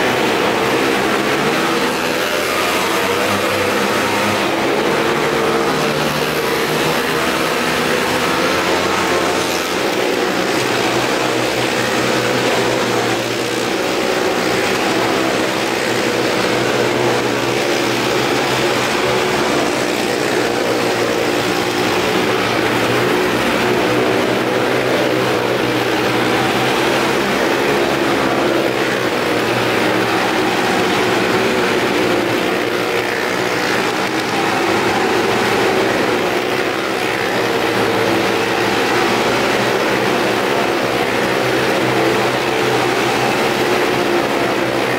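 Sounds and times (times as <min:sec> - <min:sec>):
motorcycle engines revving high: 0:00.0 - 0:44.9.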